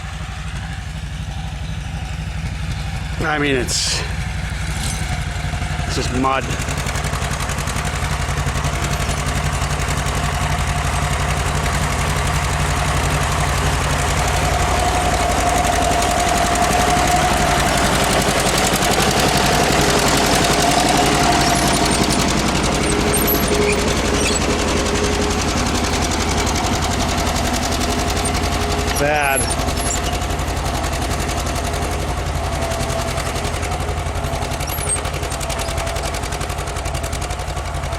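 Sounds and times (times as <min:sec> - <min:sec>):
tractor engine exhaust popping: 0:00.0 - 0:37.9.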